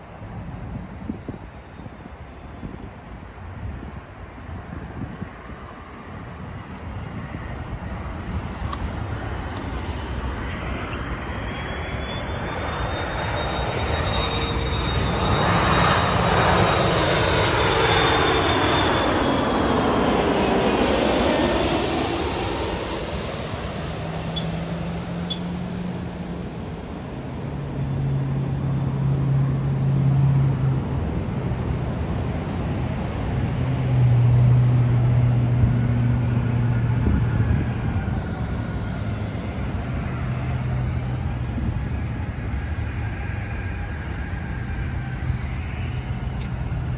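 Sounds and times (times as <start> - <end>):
jet plane landing: 0.0 - 46.9
street traffic hum: 0.0 - 46.9.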